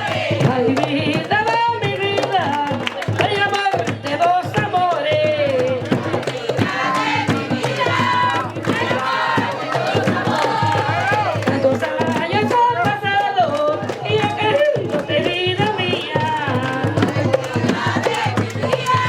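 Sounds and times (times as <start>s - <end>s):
hand drums beating: 0.0s - 19.0s
people singing: 0.0s - 19.0s.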